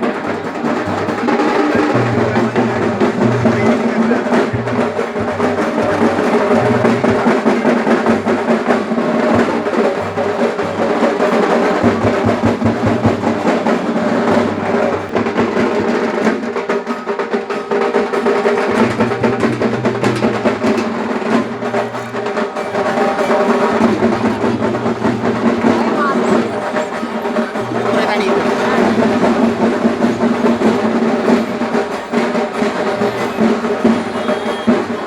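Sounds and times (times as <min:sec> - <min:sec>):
fast rhythmic drumming: 0:00.0 - 0:35.0.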